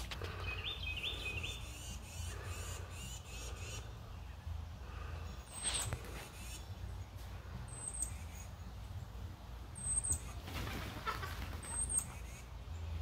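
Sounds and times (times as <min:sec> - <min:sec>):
bird chirping: 0:00.0 - 0:10.5, 0:11.2 - 0:13.0.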